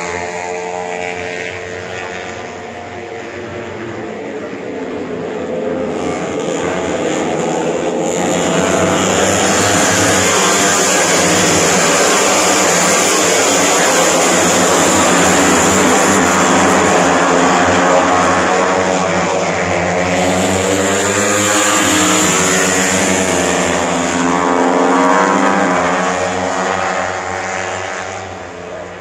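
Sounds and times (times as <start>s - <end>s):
loud engine running: 0.0s - 29.0s.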